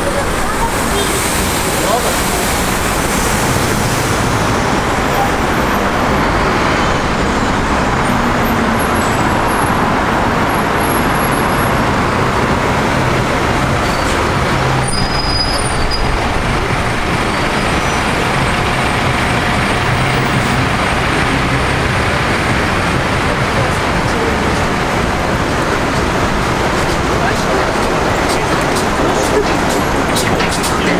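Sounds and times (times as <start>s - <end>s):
heavy vehicle engine humming: 0.0s - 30.9s
road traffic noise: 0.0s - 30.9s.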